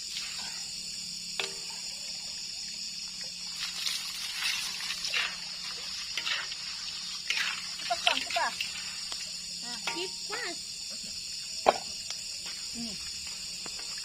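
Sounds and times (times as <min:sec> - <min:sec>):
steady high hiss: 0:00.0 - 0:14.0
water trickling and splashing: 0:00.0 - 0:14.0.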